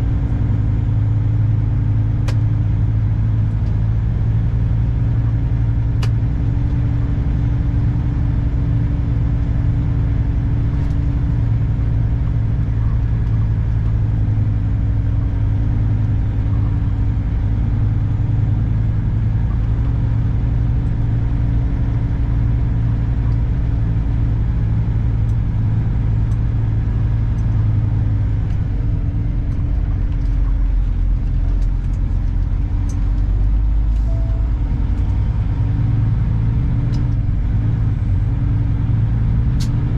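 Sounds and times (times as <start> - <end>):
truck diesel engine drone: 0.0 - 39.9.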